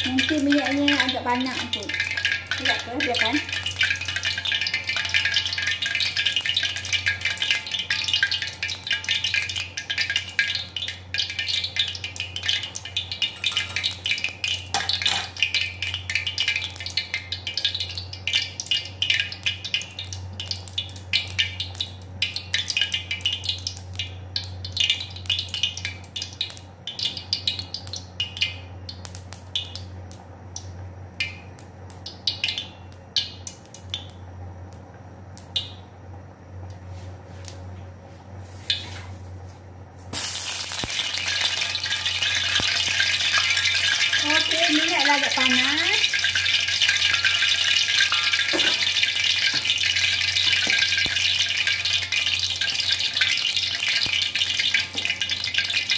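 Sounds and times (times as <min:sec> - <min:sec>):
oil sizzling loudly: 0:00.0 - 0:29.9, 0:40.1 - 0:55.9
hot oil crackling and popping: 0:00.0 - 0:36.0, 0:40.1 - 0:55.9.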